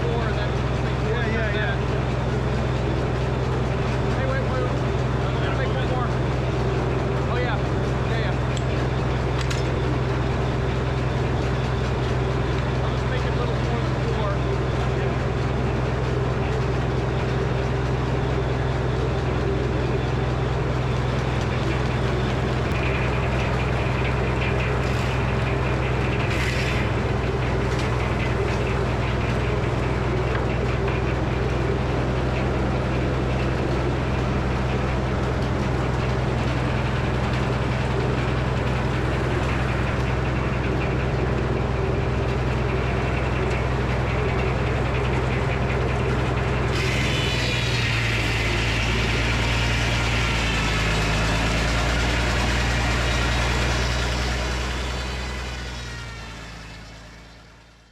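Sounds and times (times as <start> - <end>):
sawmill engine droning: 0.0 - 57.9.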